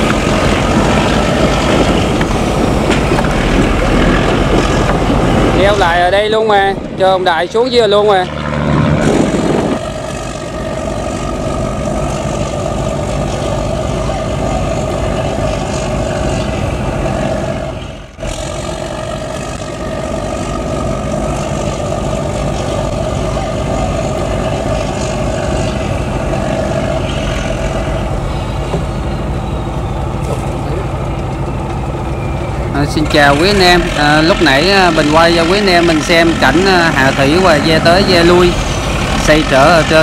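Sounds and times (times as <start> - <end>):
boat diesel engine droning: 0.0 - 40.0.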